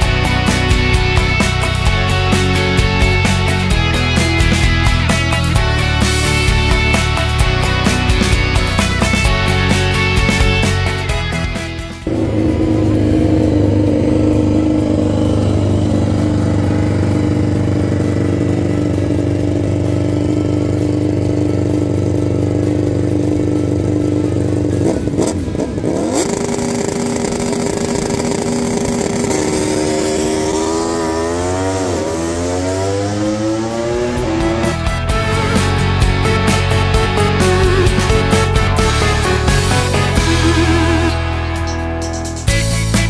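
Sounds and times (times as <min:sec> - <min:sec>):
racing motorcycle engine revving: 0:00.0 - 0:41.8.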